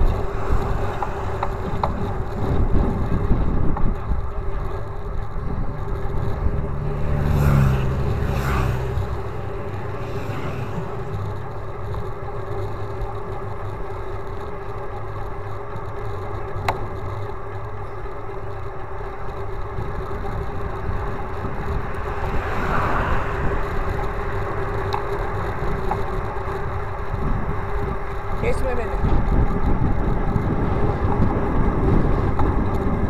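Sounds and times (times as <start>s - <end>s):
bicycle wind and road noise: 0.0s - 33.0s
sharp ticks: 0.0s - 33.0s.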